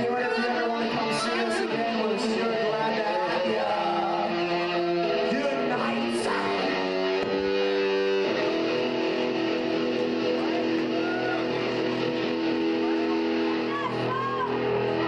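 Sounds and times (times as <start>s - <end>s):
live band with electric guitar chords: 0.0s - 15.0s.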